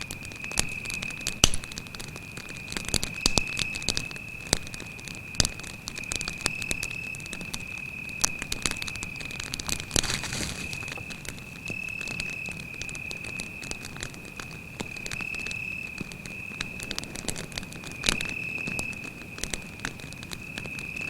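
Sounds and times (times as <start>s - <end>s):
campfire crackling: 0.0s - 21.0s
cricket trilling: 0.0s - 21.0s.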